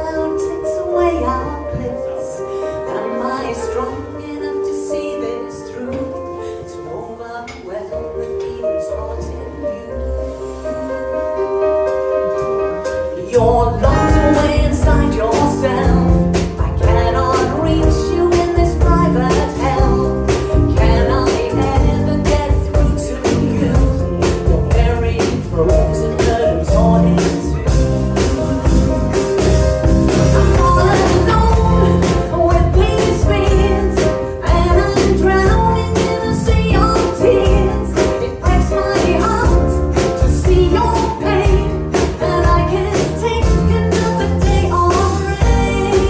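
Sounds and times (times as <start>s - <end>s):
band music with vocals: 0.0s - 46.0s.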